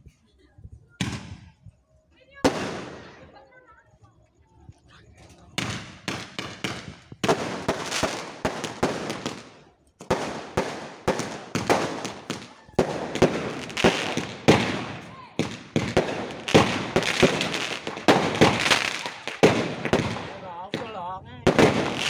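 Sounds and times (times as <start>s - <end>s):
fireworks bangs and crackles: 0.6s - 22.0s.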